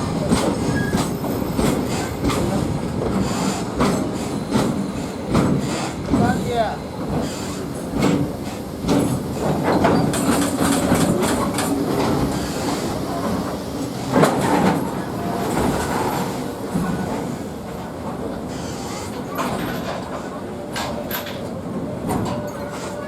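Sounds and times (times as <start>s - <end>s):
railway wagon wheels clacking: 0.0s - 23.0s.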